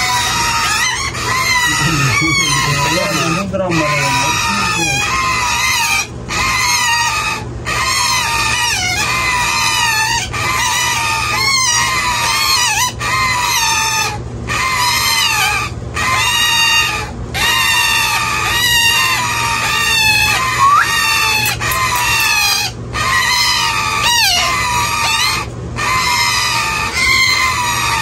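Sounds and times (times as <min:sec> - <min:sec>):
parakeet chicks begging calls: 0:00.0 - 0:28.0.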